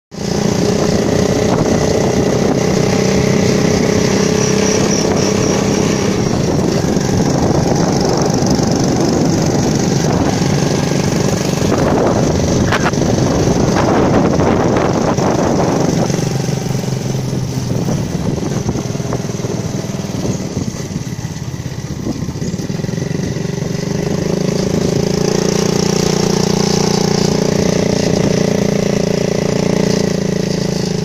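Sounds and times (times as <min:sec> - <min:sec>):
motorcycle engine hum: 0:00.1 - 0:31.0
road noise: 0:00.1 - 0:31.0.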